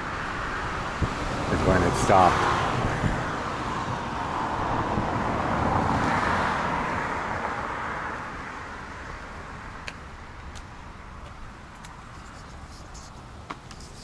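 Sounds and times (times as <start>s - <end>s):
car passing on road: 0.0s - 14.0s.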